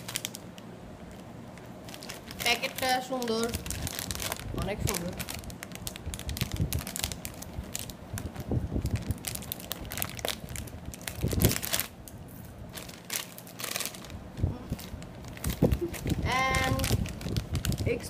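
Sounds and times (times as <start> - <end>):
snack packet crinkling: 0.0 - 18.0.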